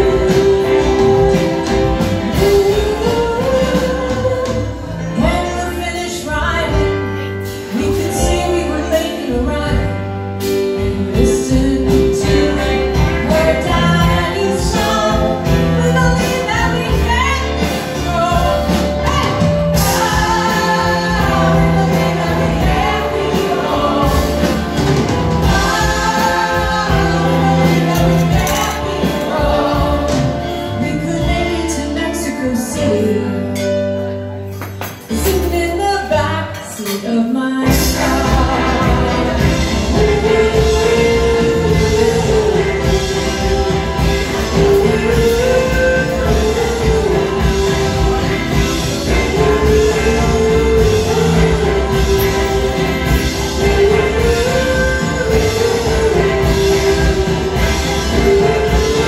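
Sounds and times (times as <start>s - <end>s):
women singing together: 0.0s - 6.7s, 10.9s - 32.8s, 37.6s - 59.0s
live band playing: 0.0s - 59.0s.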